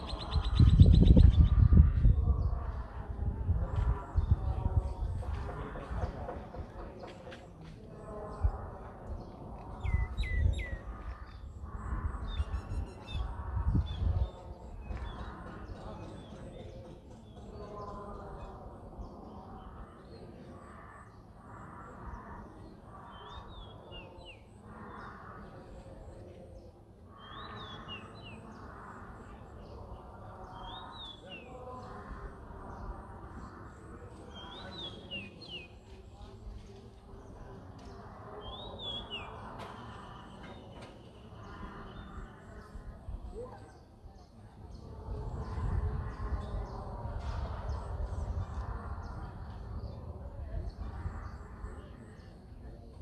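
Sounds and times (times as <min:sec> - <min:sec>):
low background murmur: 0:00.0 - 0:53.0.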